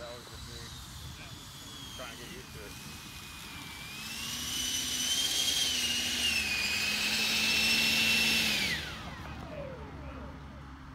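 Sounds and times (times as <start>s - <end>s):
electric ducted fan whining: 0.0s - 10.9s.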